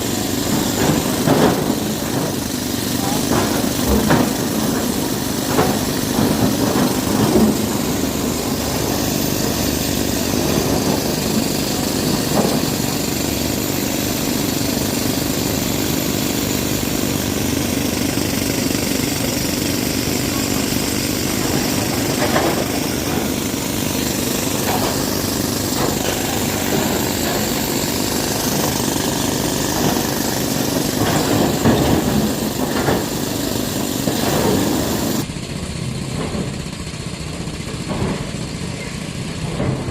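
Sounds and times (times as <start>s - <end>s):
heavy machinery diesel engine running: 0.0s - 39.9s.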